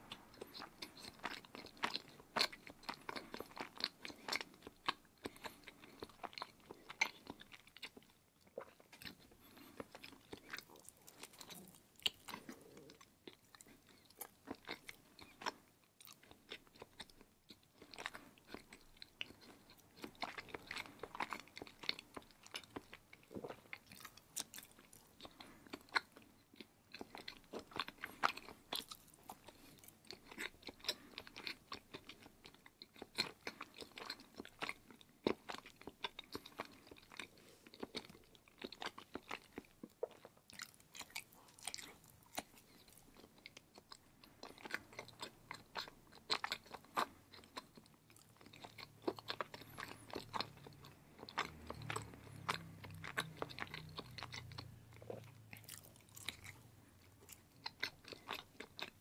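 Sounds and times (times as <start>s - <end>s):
faint low hum: 0.0s - 59.0s
person chewing cheese: 0.0s - 59.0s.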